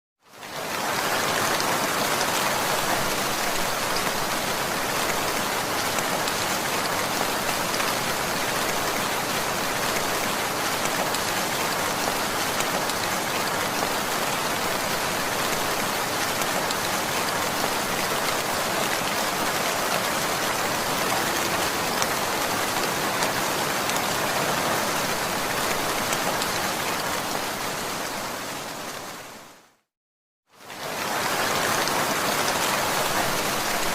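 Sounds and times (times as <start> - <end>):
heavy rain falling: 0.3 - 29.7, 30.6 - 33.9.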